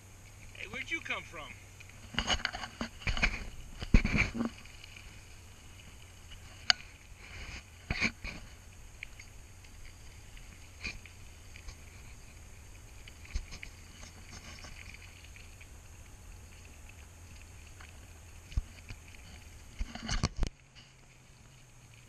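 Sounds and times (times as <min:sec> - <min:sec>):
bicycle tyres rumbling on gravel: 0:01.4 - 0:22.0.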